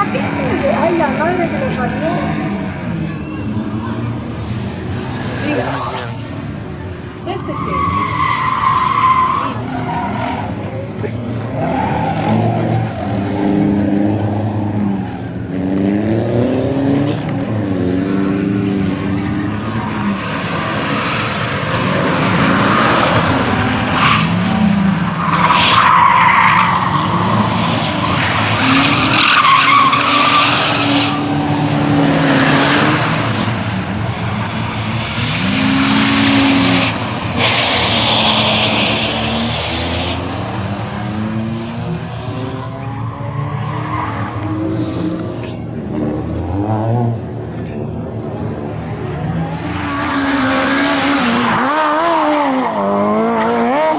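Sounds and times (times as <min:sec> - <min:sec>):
rally car engine revving: 0:00.0 - 0:53.9
tyres skidding and squealing: 0:00.0 - 0:53.9.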